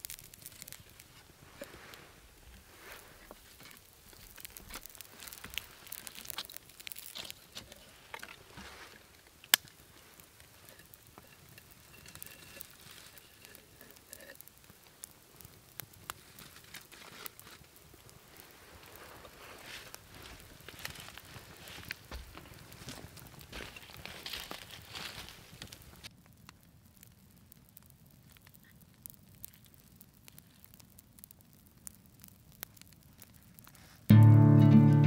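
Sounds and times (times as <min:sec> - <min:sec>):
pine needles burning and crackling: 0:00.0 - 0:35.0.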